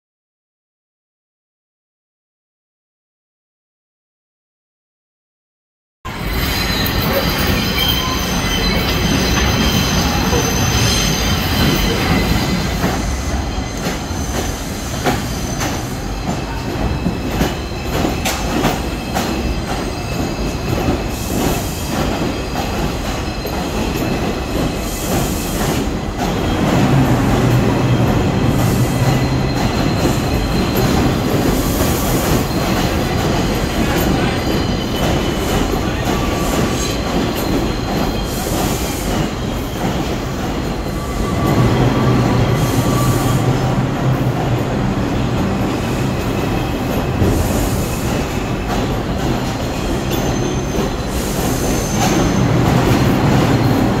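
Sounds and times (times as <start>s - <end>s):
train low hum: 6.1s - 54.0s
train wheels squealing: 6.1s - 54.0s.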